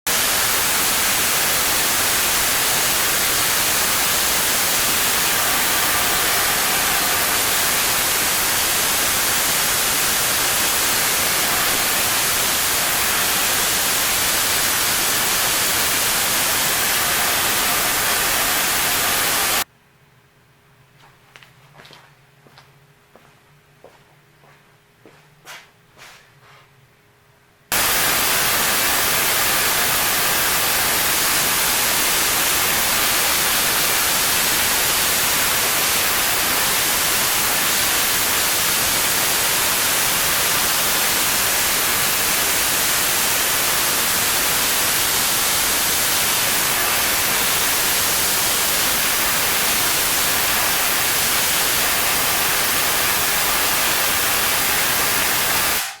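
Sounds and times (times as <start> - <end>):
tesla coil spark hiss: 0.1 - 19.6, 27.7 - 56.0.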